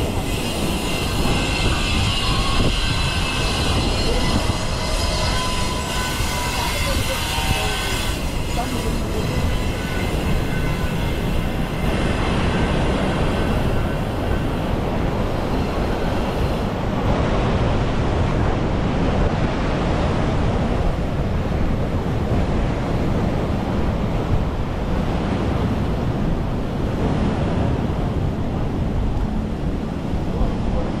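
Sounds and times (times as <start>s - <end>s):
breaking surf: 0.0s - 31.0s
wind buffeting microphone: 0.0s - 31.0s.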